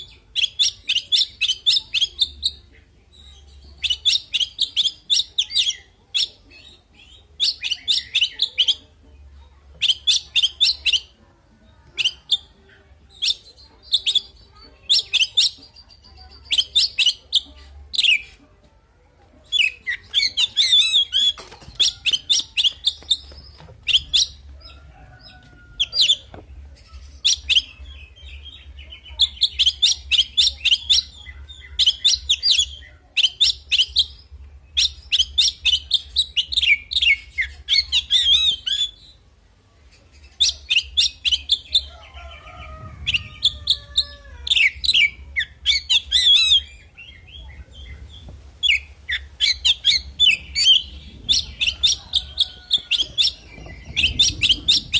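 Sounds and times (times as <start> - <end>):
magpie-robin singing: 0.0 - 18.4, 19.4 - 39.2, 39.8 - 54.9.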